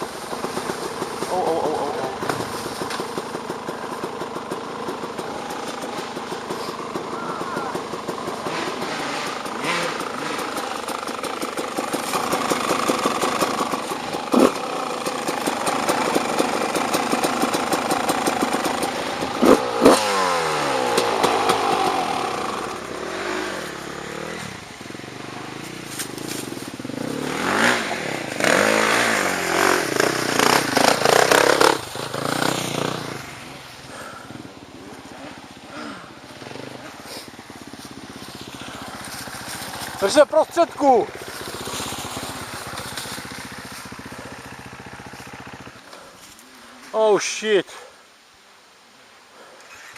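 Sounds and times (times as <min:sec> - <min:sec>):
dirt bike engine revving: 0:00.0 - 0:46.1.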